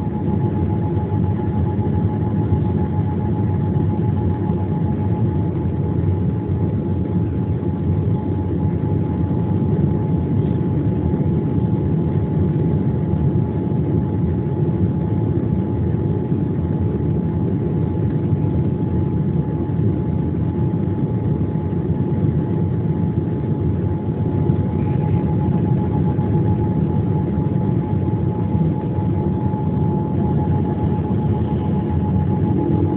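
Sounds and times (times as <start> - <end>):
jet engine cabin drone: 0.0 - 32.9
thin steady whine: 0.0 - 32.9.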